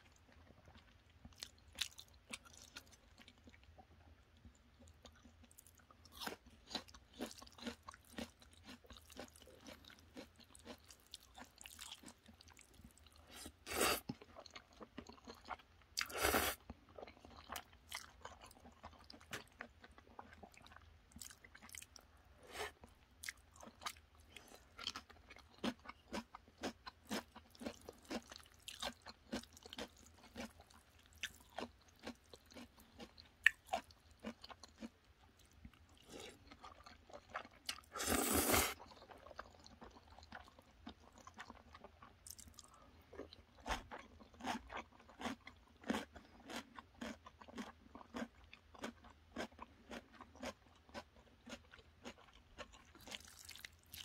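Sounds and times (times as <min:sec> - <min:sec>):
chewing noodles: 0:00.0 - 0:54.0.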